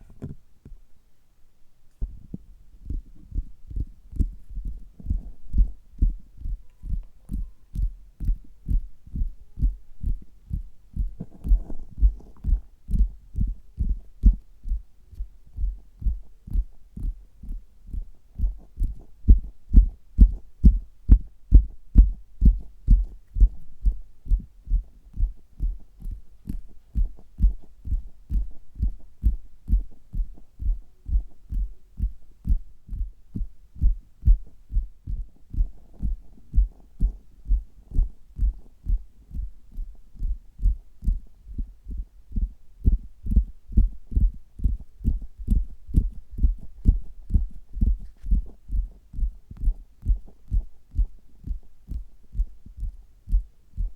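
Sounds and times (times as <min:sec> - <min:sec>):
fingers tapping on stomach: 0:02.9 - 0:53.9.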